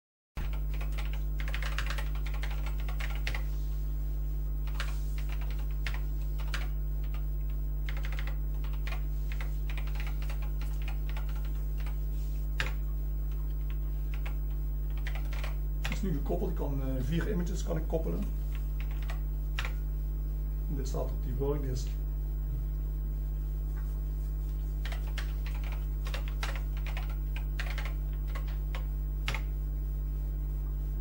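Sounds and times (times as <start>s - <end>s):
low mains hum: 0.4s - 31.0s.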